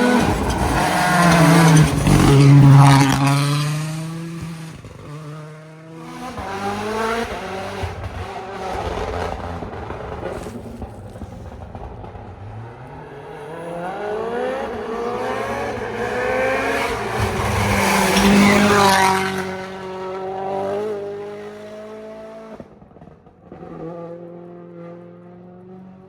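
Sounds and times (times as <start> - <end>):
rally car accelerating past: 0.0 - 26.0.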